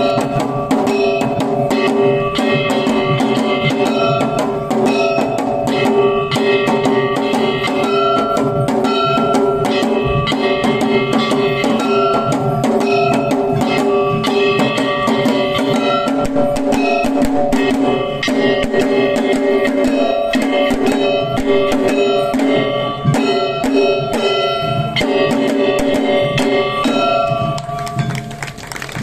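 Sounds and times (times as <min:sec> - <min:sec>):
sustained ringing tones: 0:00.0 - 0:28.6
drums in quick dense rhythm: 0:00.0 - 0:29.0.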